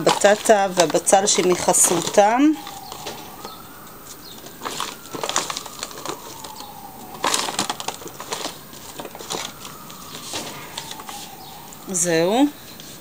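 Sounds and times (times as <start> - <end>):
aluminium foil crinkling: 0.0 - 13.0
faint wavering tone: 0.5 - 13.0.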